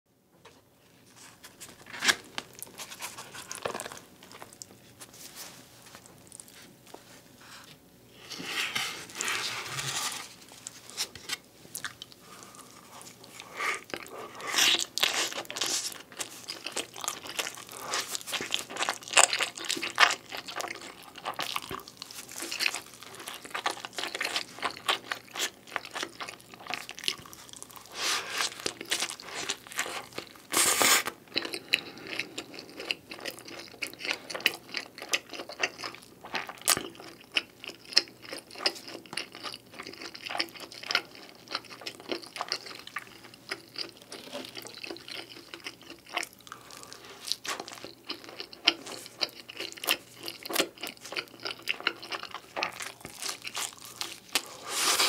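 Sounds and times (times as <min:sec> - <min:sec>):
crunchy chewing of pizza: 0:01.1 - 0:55.0.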